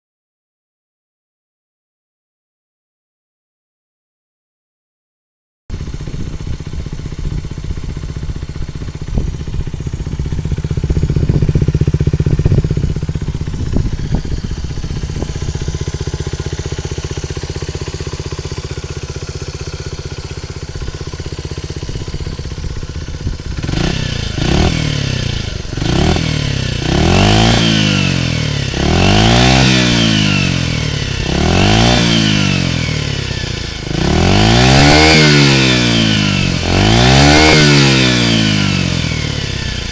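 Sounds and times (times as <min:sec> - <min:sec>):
engine throttle blips: 0:05.7 - 0:39.9
minibike engine idling: 0:05.7 - 0:39.9.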